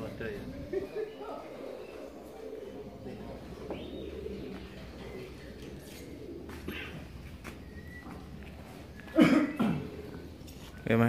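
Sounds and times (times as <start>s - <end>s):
pigeons cooing: 0.0s - 10.9s.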